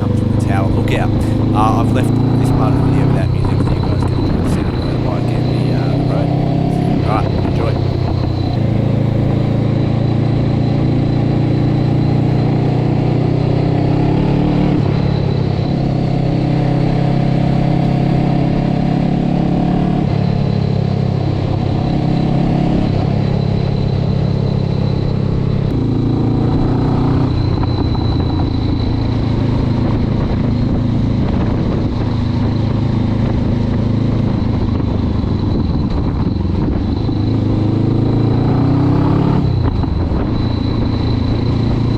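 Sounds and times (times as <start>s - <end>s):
motorcycle engine and exhaust: 0.0s - 41.9s.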